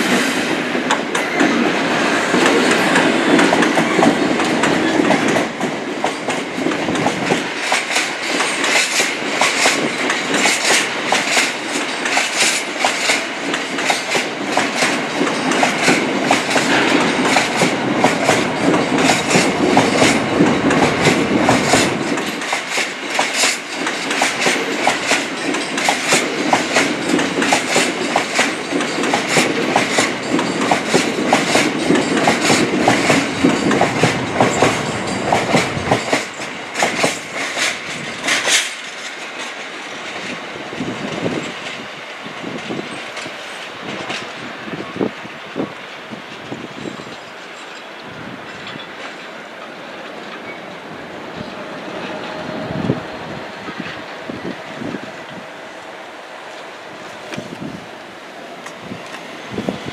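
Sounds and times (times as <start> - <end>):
train rumble: 0.0 - 59.9
train wheels clattering over rails: 0.0 - 59.9.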